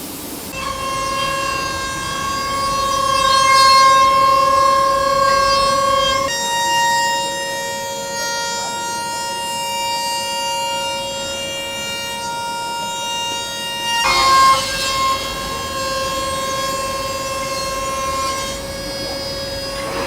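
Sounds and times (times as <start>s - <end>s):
held electronic chord: 0.5s - 20.0s.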